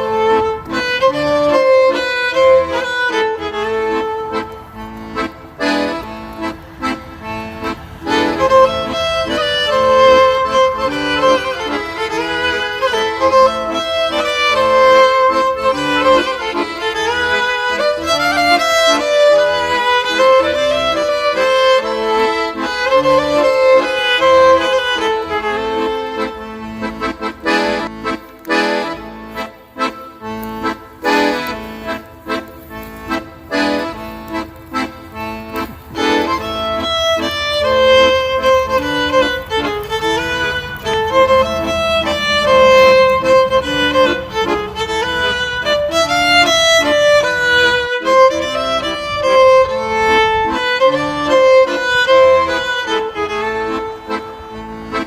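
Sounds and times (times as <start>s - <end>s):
accordion-like melody: 0.0s - 55.0s.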